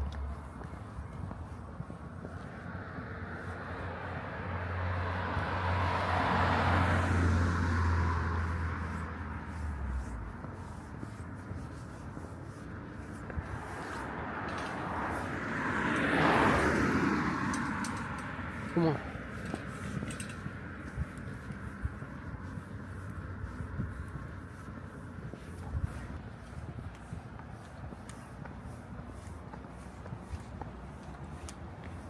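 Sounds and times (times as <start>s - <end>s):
vehicles passing by: 0.0s - 32.0s
low engine hum: 3.9s - 32.0s.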